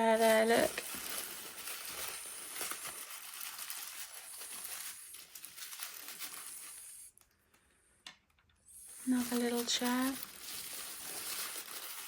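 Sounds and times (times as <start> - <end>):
wrapping crinkling and rustling: 0.0 - 7.3, 8.8 - 12.0.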